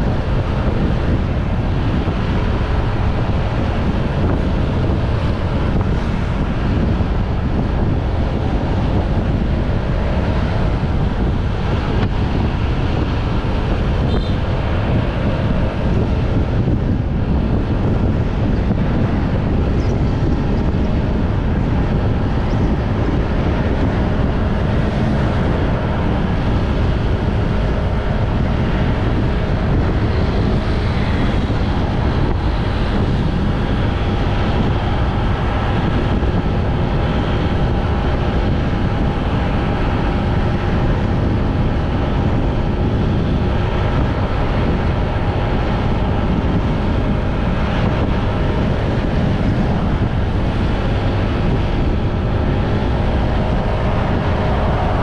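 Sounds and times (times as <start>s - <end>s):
motorbike engine hum: 0.0s - 55.0s
wind rushing over microphone: 0.0s - 55.0s.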